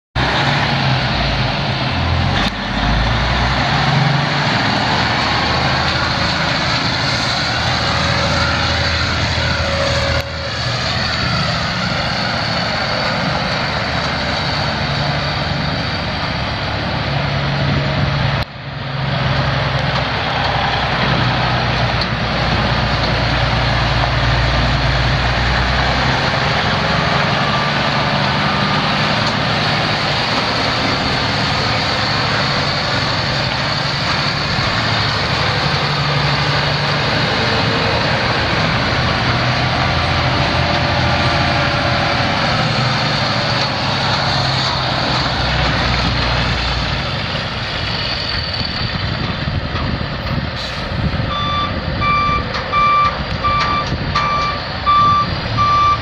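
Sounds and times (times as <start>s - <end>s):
diesel truck engine running: 0.2s - 56.0s.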